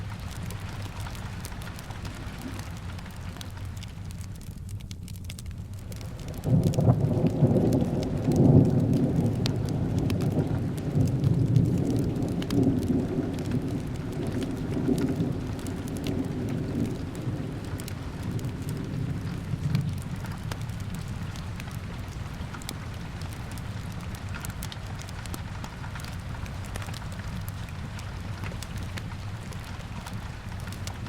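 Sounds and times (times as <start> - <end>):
steady rain falling: 0.0 - 31.0
low rumble of thunder: 5.6 - 31.0.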